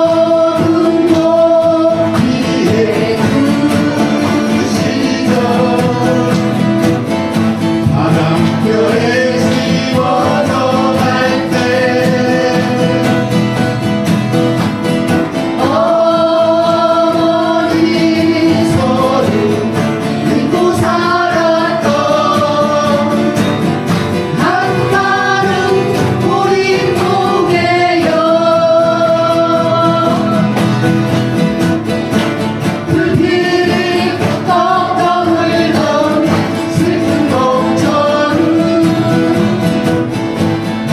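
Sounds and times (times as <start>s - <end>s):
acoustic guitars strumming: 0.0s - 40.9s
group singing into microphones: 0.0s - 40.9s.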